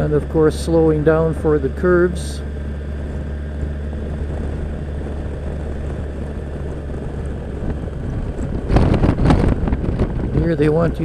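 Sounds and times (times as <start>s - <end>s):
motorcycle engine cruising: 0.0s - 11.0s
wind buffeting microphone: 0.0s - 11.0s.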